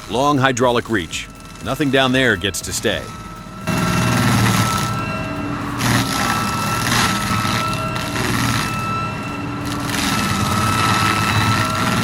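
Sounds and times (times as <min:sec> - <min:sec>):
large engine running: 0:00.0 - 0:12.0
rushing grinding noise: 0:00.0 - 0:12.0.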